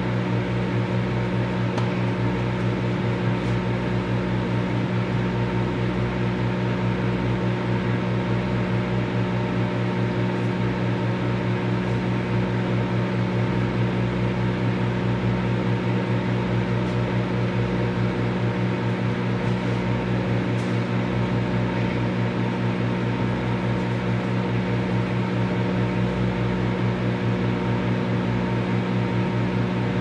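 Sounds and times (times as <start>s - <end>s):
microwave fan whirring: 0.0s - 30.0s
microwave oven electrical hum: 0.0s - 30.0s.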